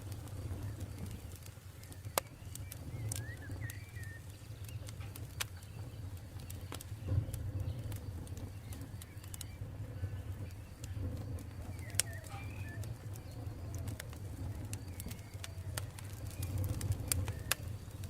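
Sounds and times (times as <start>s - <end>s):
campfire crackles and pops: 0.0s - 18.0s
faint chirps: 0.3s - 18.0s.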